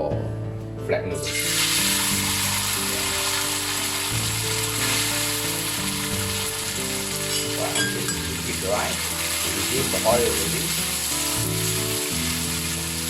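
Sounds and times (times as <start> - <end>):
background music of held notes: 0.0 - 13.0
noodles sizzling in hot oil: 1.2 - 13.0.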